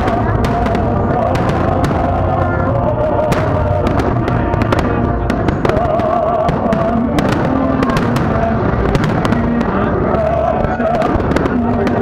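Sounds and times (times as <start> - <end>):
firework bangs and crackles: 0.0 - 12.0
loud music playing: 0.0 - 12.0.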